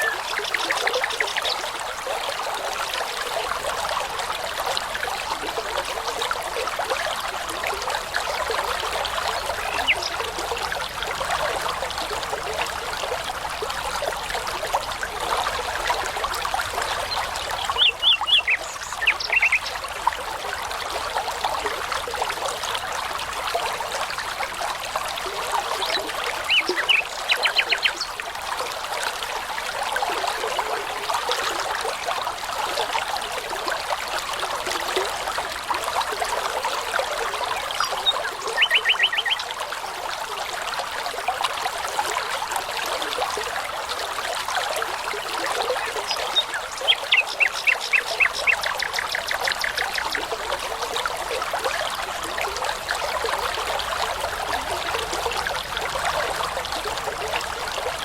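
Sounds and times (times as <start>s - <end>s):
brook trickling: 0.0s - 58.0s.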